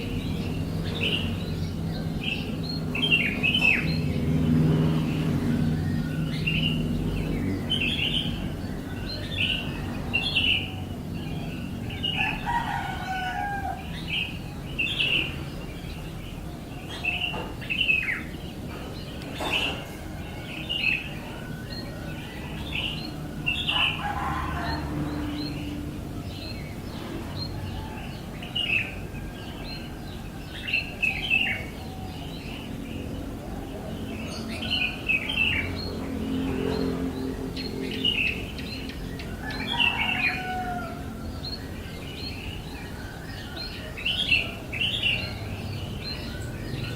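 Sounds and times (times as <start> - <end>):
bird chirping: 0.0 - 46.9.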